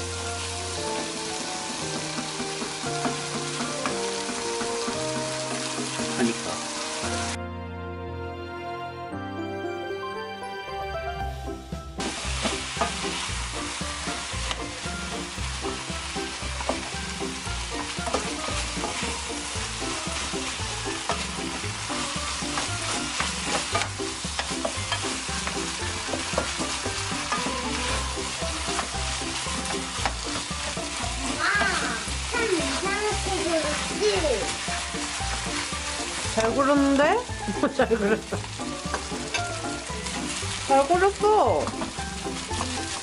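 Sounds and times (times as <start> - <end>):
spatula stirring in pan: 0.0 - 7.0, 12.0 - 43.0
rice sizzling in frying pan: 0.0 - 7.4, 10.8 - 43.0.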